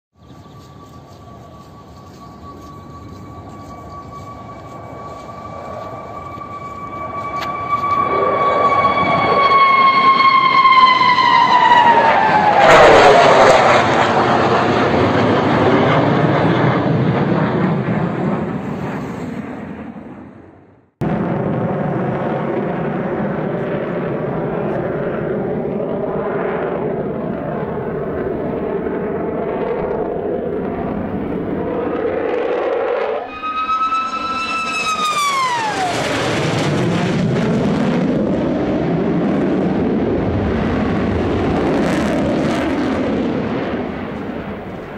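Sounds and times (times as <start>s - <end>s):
jet fighter roaring overhead: 0.3s - 44.9s.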